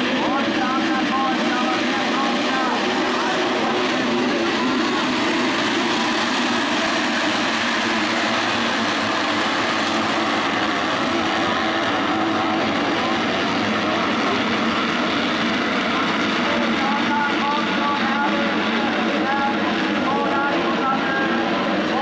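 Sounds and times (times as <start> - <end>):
motocross bikes revving: 0.0 - 19.4.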